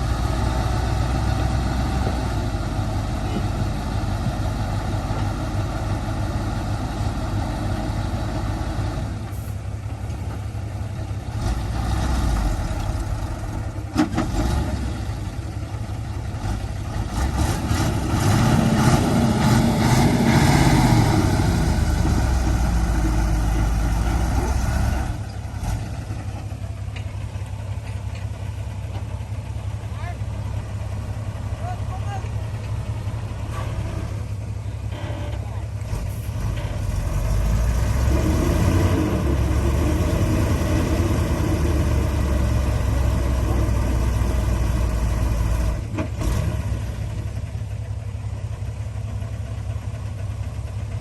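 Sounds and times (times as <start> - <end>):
heavy diesel machinery running: 0.0 - 51.0.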